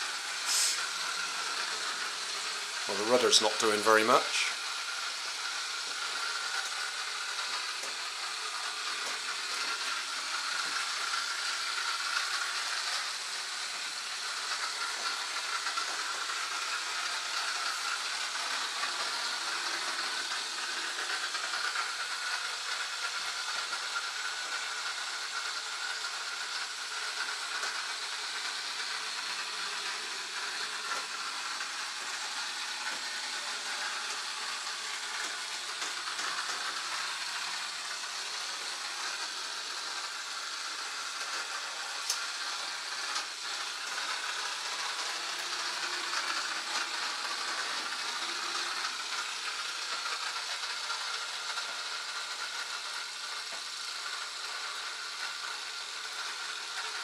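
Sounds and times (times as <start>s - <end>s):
small electric motor whining: 0.0s - 57.0s.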